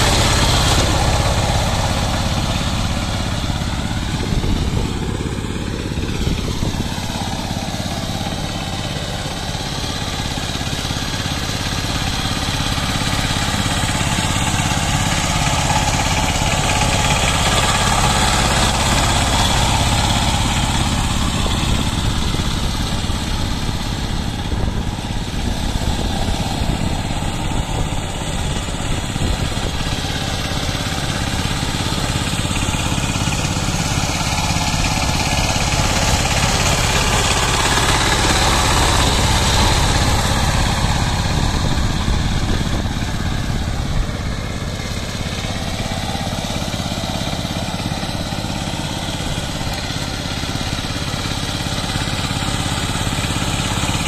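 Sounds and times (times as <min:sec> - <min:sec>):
diesel power tiller engine: 0:00.0 - 0:54.0.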